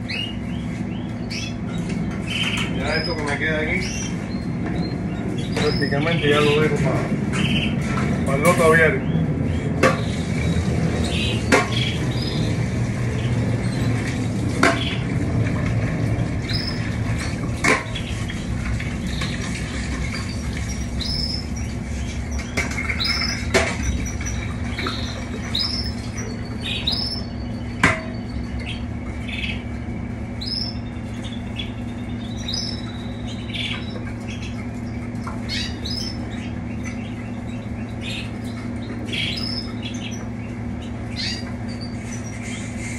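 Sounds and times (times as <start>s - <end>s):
canaries chirping: 0.0s - 42.9s
steady low hum: 0.0s - 42.9s.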